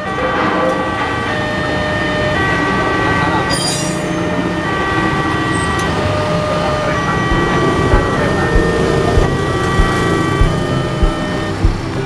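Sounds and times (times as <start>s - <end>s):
crossing warning alarm tones: 0.0s - 12.0s
electric train rolling: 0.0s - 12.0s.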